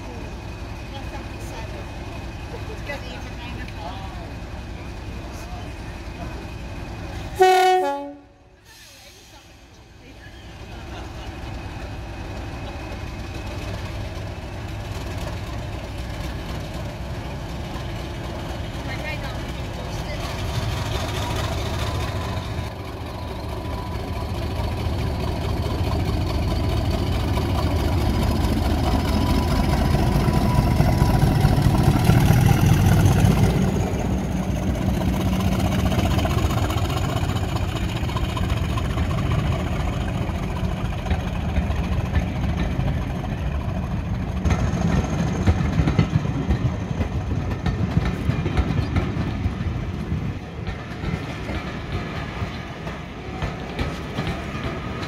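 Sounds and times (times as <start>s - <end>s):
diesel locomotive engine rumbling: 0.0s - 55.0s.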